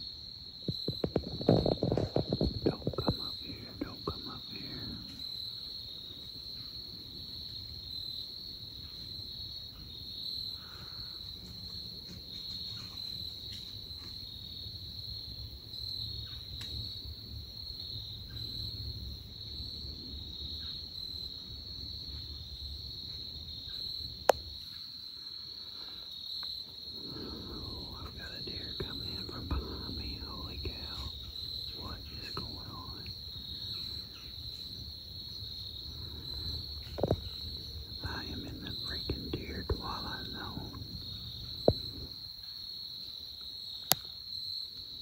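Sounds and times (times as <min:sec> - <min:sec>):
insects chorus: 0:00.0 - 0:45.0.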